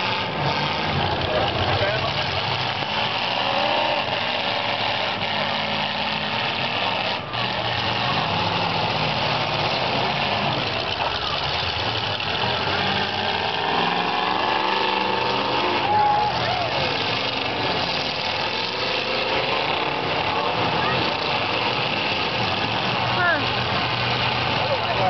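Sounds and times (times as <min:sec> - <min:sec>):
engine revving: 0:00.0 - 0:25.0
several car engines running: 0:00.0 - 0:25.0.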